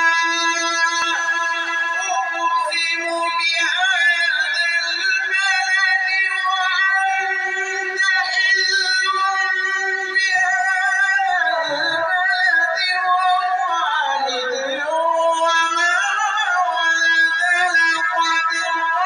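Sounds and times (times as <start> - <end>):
man chanting through loudspeakers: 0.0 - 19.0.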